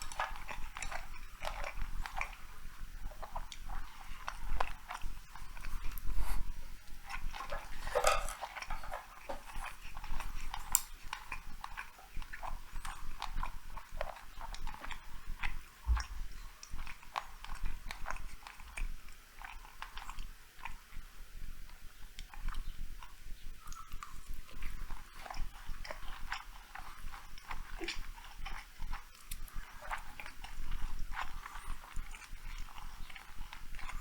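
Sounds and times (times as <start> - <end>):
wet chewing mouth clicks: 0.0 - 34.0.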